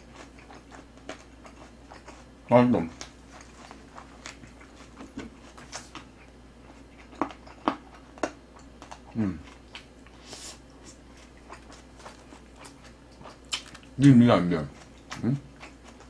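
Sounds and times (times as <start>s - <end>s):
person chewing with mouth smacks: 0.0s - 14.0s, 14.7s - 16.0s.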